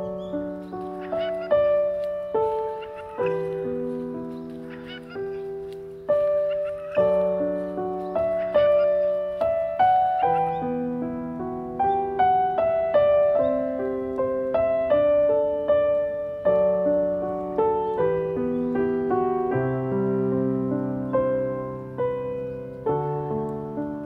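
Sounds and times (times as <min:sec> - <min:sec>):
slow gentle piano melody: 0:00.0 - 0:24.0.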